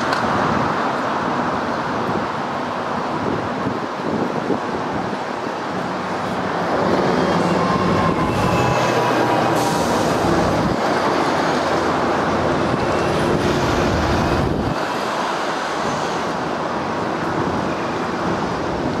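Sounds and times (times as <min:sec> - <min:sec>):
passing vehicles rumble and hiss: 0:00.0 - 0:19.0.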